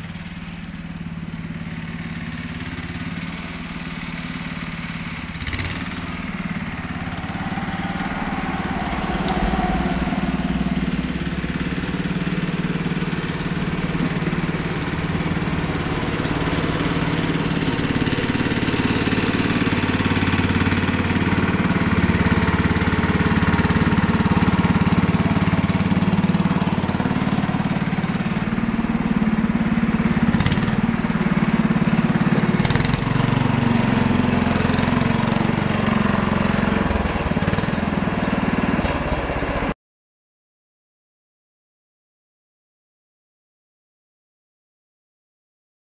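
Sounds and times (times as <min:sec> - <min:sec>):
tractor engine running: 0:00.0 - 0:39.7.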